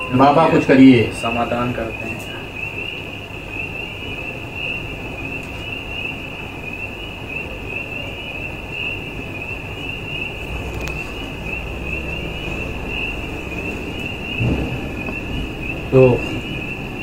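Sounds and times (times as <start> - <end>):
crickets chirring: 0.0 - 17.0
low wind rumble: 0.0 - 17.0.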